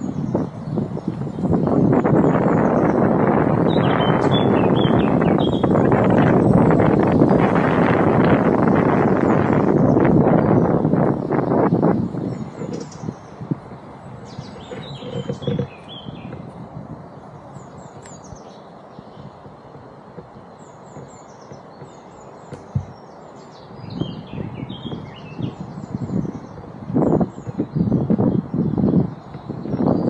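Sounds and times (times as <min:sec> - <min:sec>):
small birds chirping: 0:00.0 - 0:30.0
steady outdoor hiss: 0:00.0 - 0:30.0.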